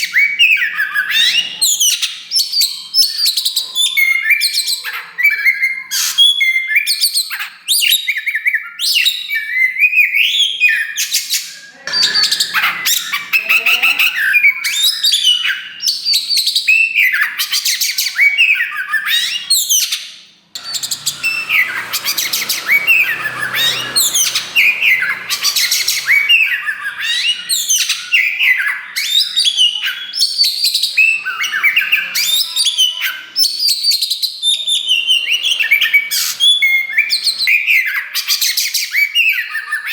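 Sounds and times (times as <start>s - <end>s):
songbird singing whistles and trills: 0.0s - 20.0s, 20.6s - 39.9s.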